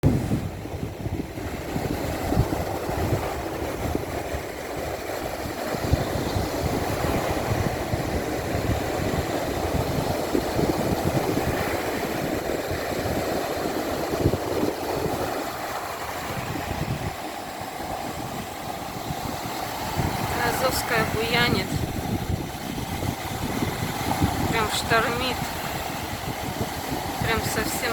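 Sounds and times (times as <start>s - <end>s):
sea waves breaking: 0.0s - 27.9s
wind buffeting microphone: 0.0s - 27.9s.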